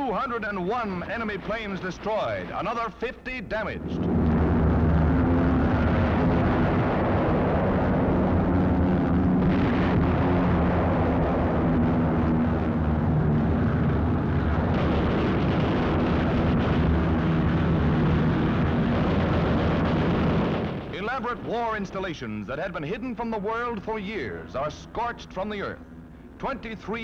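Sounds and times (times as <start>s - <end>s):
aircraft engines droning: 0.0s - 27.0s
rough rumbling noise: 0.0s - 27.0s.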